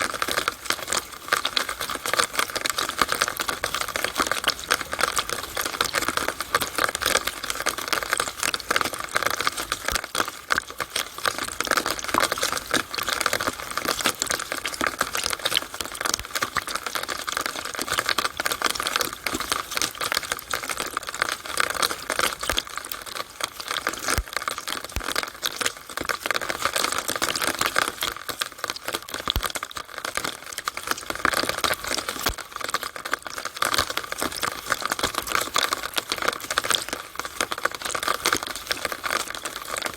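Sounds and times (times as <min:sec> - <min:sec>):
rainwater dripping in downspout: 0:00.0 - 0:39.9.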